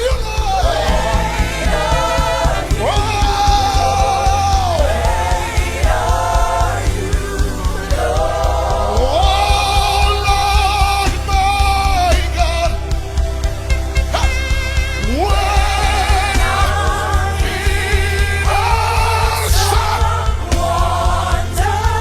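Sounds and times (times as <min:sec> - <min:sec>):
gospel band playing: 0:00.0 - 0:22.0.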